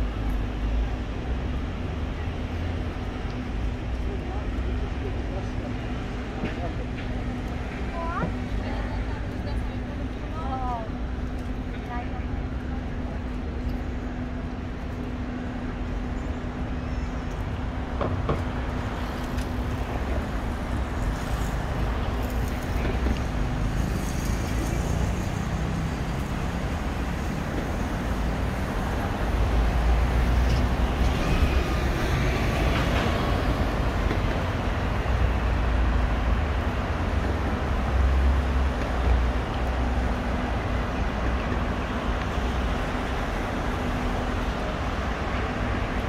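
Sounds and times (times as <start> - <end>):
cars and buses passing: 0.0 - 46.0.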